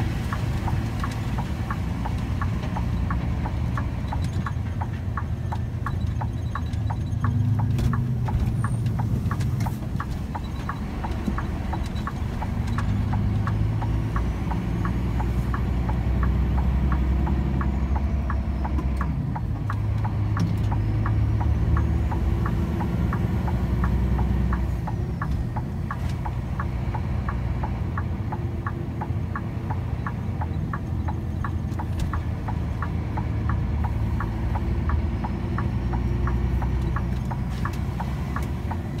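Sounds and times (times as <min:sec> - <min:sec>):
vehicle engine running low: 0:00.0 - 0:39.0
even ticking clicks: 0:00.2 - 0:39.0.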